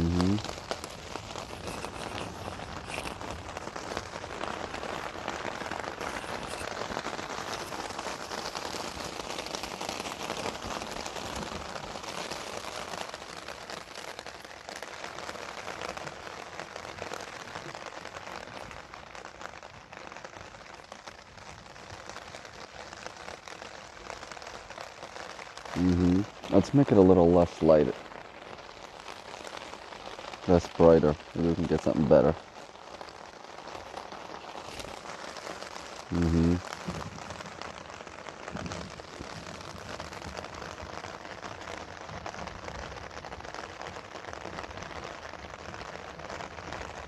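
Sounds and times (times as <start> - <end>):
rain falling on wet street: 0.0 - 47.0.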